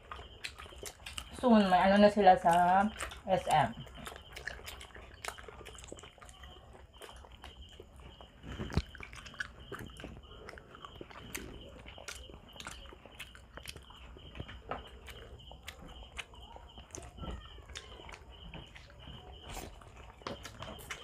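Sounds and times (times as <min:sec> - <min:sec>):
chewing and lip smacking: 0:00.0 - 0:21.0.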